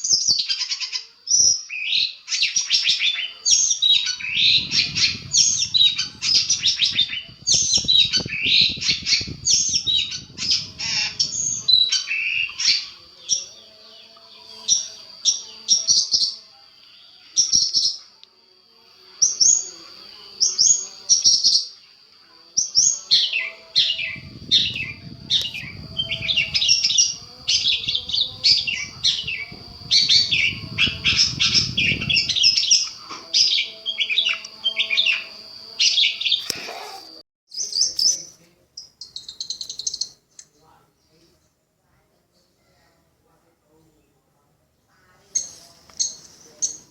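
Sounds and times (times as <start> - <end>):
shrike singing chattering song: 0.1 - 18.0, 19.0 - 40.2.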